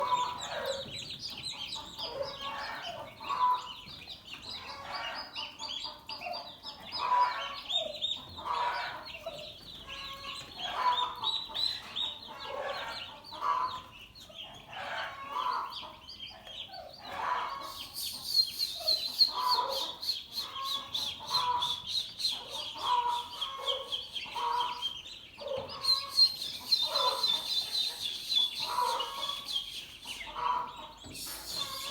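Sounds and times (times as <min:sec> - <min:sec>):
turkeys calling: 0:00.0 - 0:13.9, 0:17.1 - 0:31.9.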